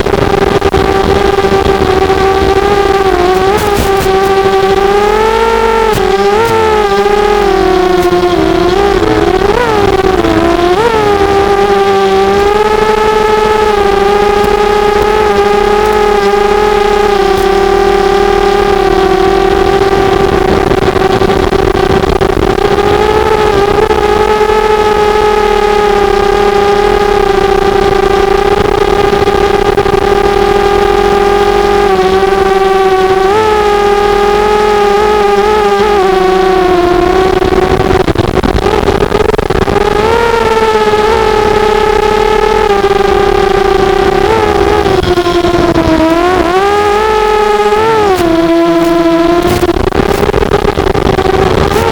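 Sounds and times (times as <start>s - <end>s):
quadcopter motors whining: 0.0s - 51.9s.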